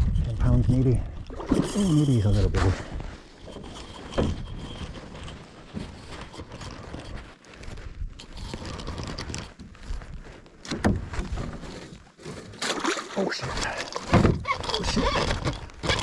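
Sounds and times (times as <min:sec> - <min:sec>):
fishing gear scraping and knocking: 0:00.0 - 0:16.0.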